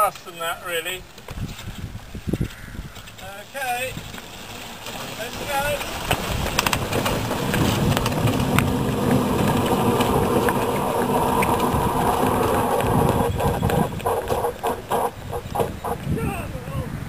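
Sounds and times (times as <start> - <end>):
wind across microphone: 1.0 - 17.0.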